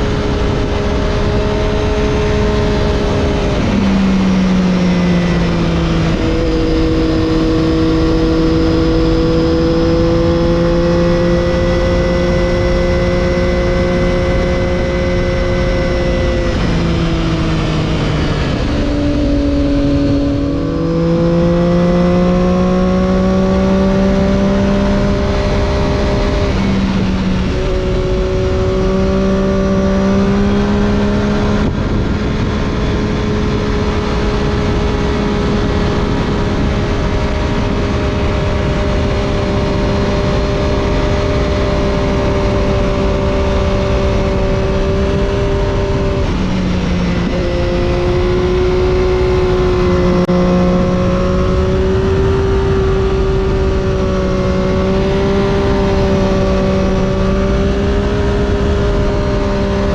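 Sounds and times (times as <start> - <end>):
motorcycle engine at steady revs: 0.0 - 59.9
wind rush: 0.0 - 59.9.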